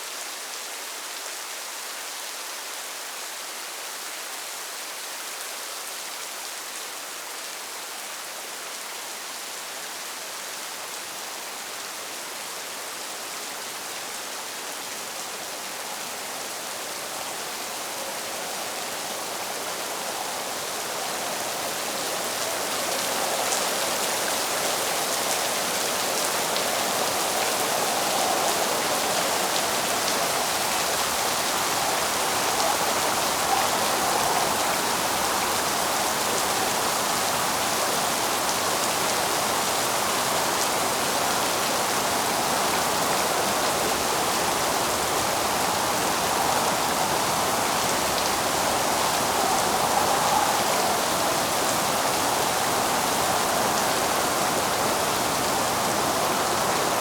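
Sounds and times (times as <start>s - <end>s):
rainfall hiss: 0.0s - 57.0s.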